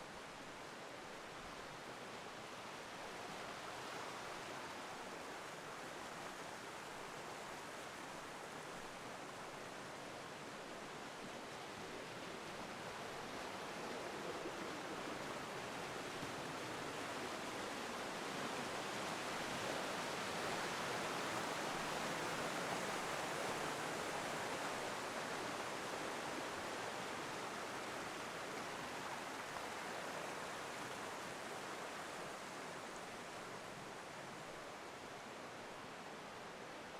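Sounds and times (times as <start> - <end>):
stream rushing over waterfalls: 0.0 - 36.9.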